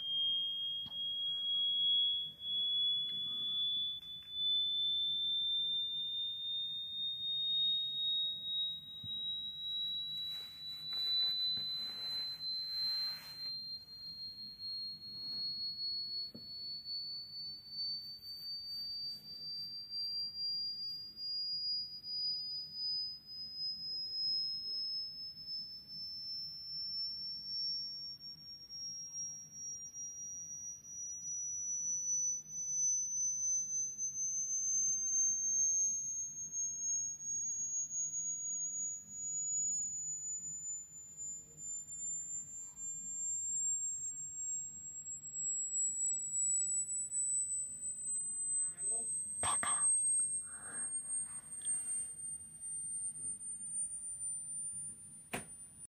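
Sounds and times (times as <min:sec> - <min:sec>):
rising sine test tone: 0:00.0 - 0:55.9.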